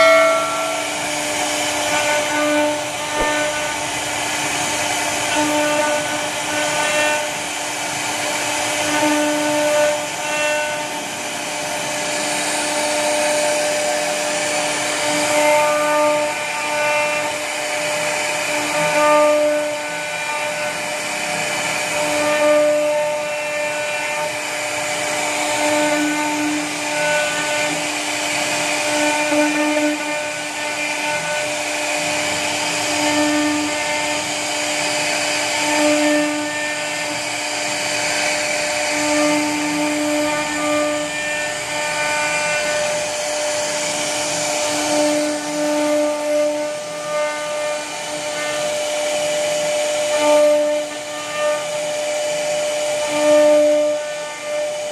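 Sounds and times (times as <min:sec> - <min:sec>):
bit cutting wood hiss: 0:00.0 - 0:54.9
router spindle whine: 0:00.0 - 0:54.9.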